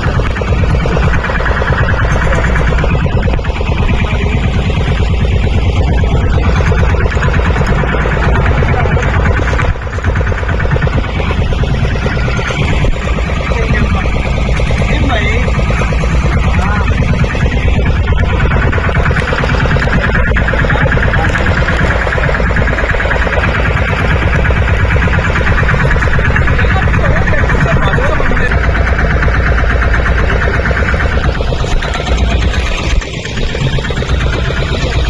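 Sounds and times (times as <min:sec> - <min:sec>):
boat engine chugging: 0:00.0 - 0:35.0.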